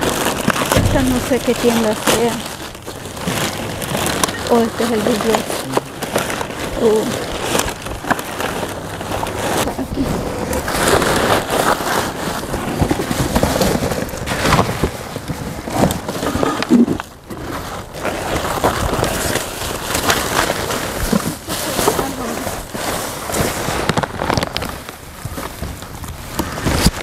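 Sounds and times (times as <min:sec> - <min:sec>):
cardboard and packaging rustling: 0:00.0 - 0:27.0.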